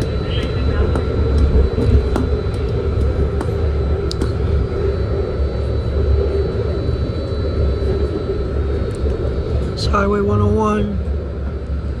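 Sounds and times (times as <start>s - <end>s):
faint steady whine: 0.0s - 12.0s
train rumbling on track: 0.0s - 12.0s.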